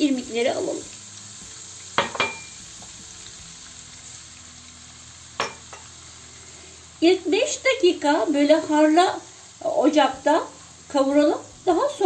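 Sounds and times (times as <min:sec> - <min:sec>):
margarine sizzling in a frying pan: 0:00.0 - 0:12.0.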